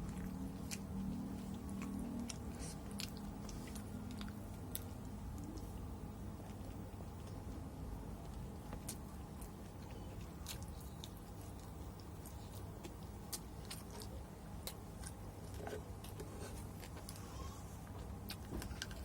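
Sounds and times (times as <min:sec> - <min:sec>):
person chewing food: 0:00.0 - 0:19.0
steady low hum: 0:00.0 - 0:19.0.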